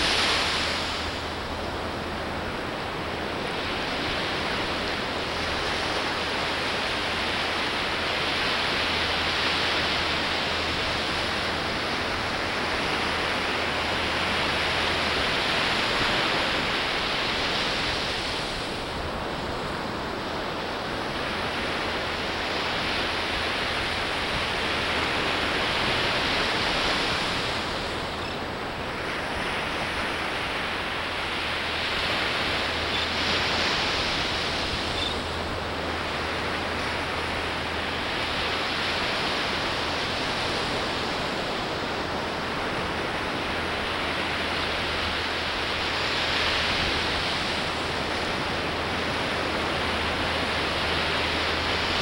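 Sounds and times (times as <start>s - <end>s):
ocean waves breaking on beach: 0.0s - 52.0s.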